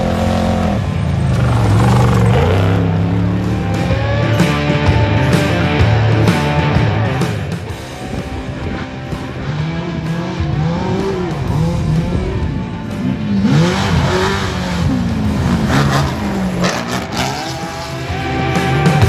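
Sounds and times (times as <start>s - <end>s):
race truck engine revving: 0.0s - 19.0s.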